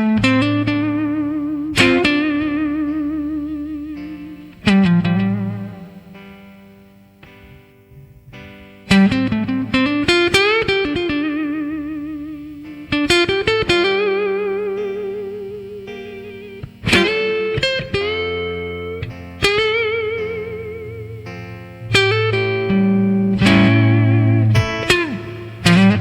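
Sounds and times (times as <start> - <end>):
blues guitar solo: 0.0 - 26.0
low backing music: 0.0 - 26.0.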